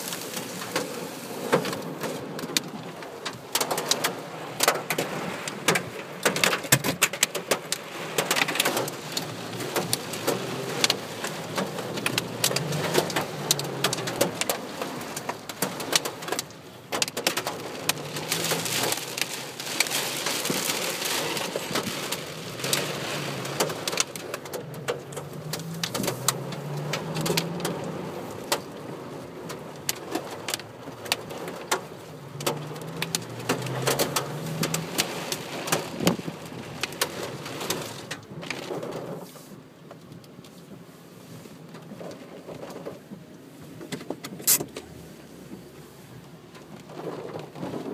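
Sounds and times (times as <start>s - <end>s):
hail rattling on vehicle roof: 0.0s - 39.4s, 46.6s - 47.9s.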